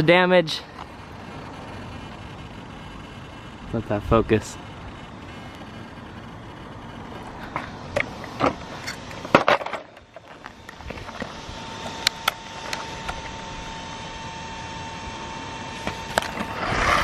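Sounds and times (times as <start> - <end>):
faint steady tone: 0.0 - 16.6.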